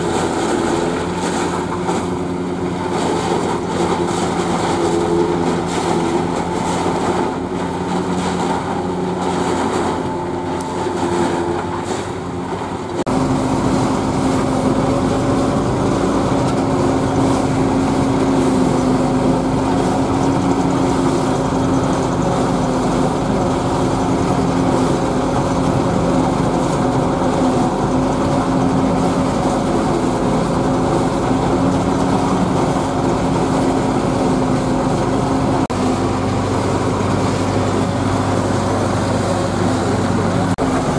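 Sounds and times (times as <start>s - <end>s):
forage harvester chopping corn: 0.0s - 40.9s
tractor diesel engine running: 0.0s - 40.9s.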